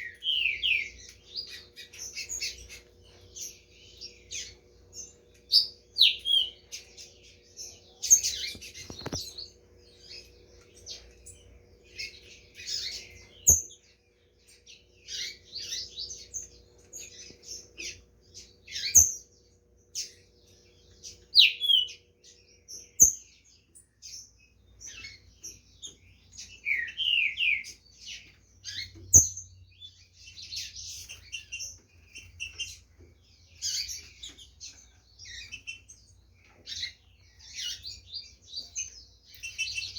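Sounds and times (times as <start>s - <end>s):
birds singing quick chirps and whistles: 0.0s - 39.9s.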